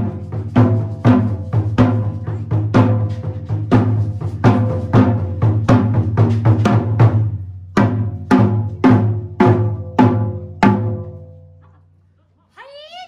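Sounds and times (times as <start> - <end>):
taiko drums struck hard: 0.0 - 11.3.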